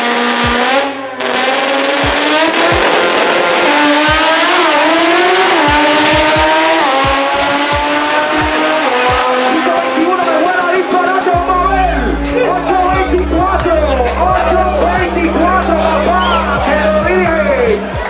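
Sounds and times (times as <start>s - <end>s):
music with deep bass beat: 0.0s - 0.9s, 1.5s - 18.0s
drag car engine at full throttle: 0.0s - 18.0s.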